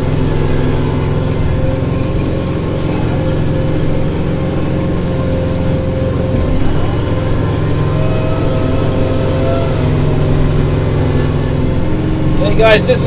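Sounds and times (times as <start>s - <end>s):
diesel tractor engine running: 0.0s - 13.0s
snowblower clearing snow: 0.0s - 13.0s.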